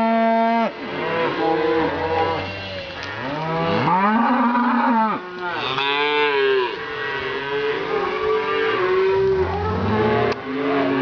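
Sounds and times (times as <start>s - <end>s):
cattle mooing: 0.0s - 11.0s.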